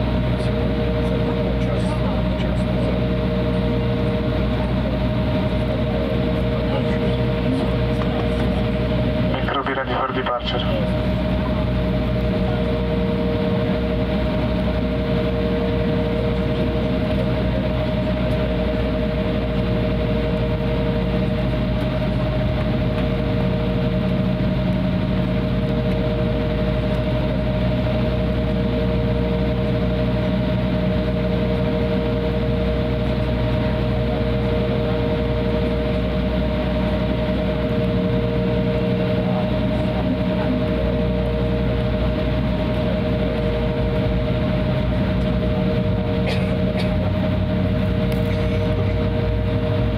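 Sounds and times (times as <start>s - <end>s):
jet engine drone in cabin: 0.0s - 49.9s
low rumble: 0.0s - 49.9s.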